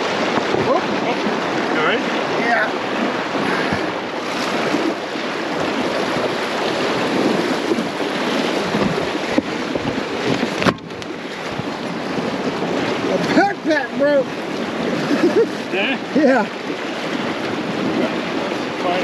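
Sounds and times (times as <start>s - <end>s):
creek water rushing and splashing: 0.0s - 19.0s
inflatable boat being dragged: 0.0s - 19.0s
wind buffeting microphone: 0.0s - 19.0s.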